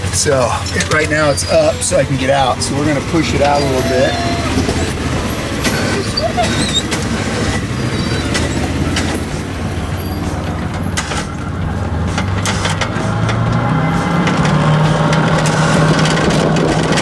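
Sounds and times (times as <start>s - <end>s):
utility vehicle engine droning: 0.0s - 17.0s.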